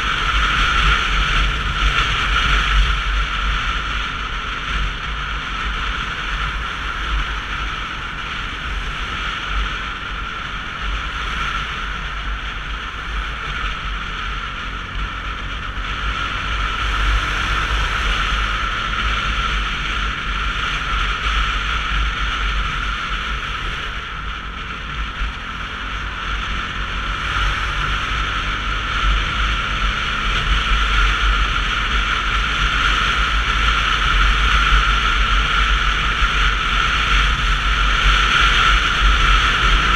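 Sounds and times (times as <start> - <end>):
motorcycle road noise: 0.0 - 39.9.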